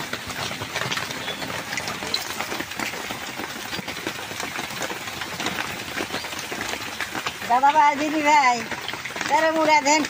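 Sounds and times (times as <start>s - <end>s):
hot oil crackling and sizzling: 0.0s - 10.0s.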